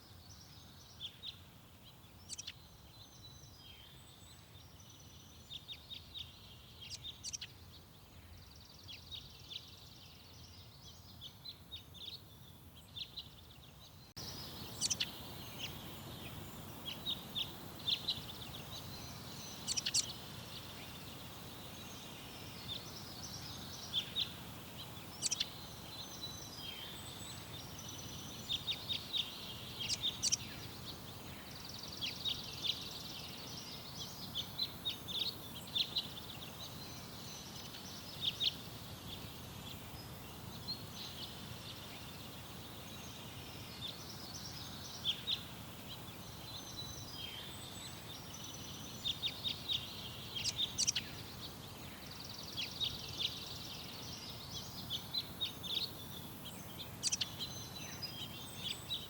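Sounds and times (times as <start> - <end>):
small birds chirping: 0.0 - 59.0
steady low background noise: 0.0 - 59.0.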